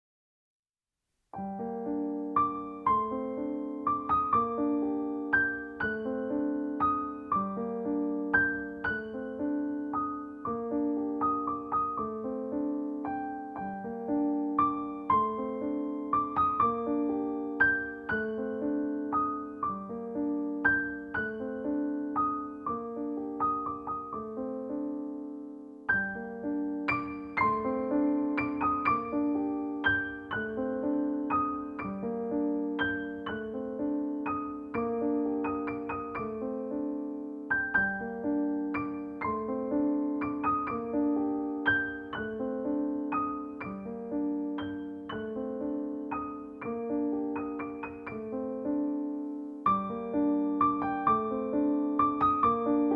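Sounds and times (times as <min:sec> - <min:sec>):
solo piano broken chords: 0:01.4 - 0:52.9.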